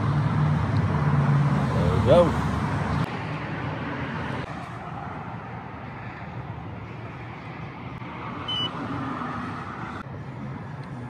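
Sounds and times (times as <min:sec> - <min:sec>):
street ambience hum and hiss: 0:00.0 - 0:11.0.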